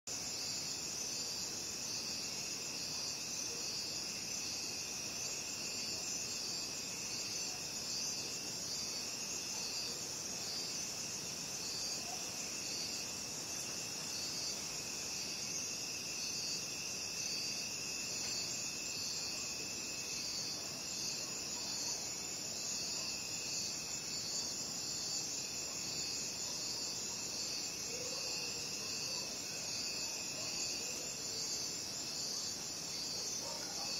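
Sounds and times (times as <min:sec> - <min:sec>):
high pulsing cricket chirp: 0:00.1 - 0:33.9
low continuous cricket trill: 0:00.1 - 0:33.9.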